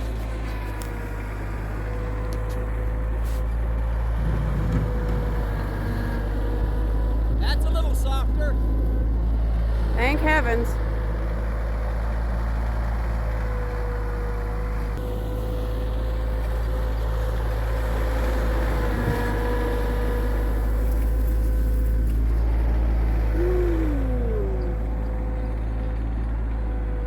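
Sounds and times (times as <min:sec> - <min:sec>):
engine whine: 0:00.0 - 0:27.0
tractor engine rumbling: 0:00.0 - 0:27.0.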